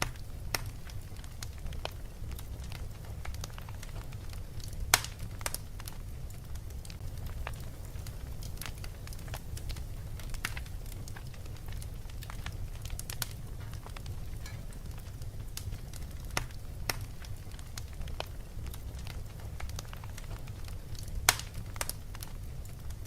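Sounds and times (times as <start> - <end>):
steady low rumble: 0.0 - 22.9
fire popping and crackling: 0.0 - 23.0.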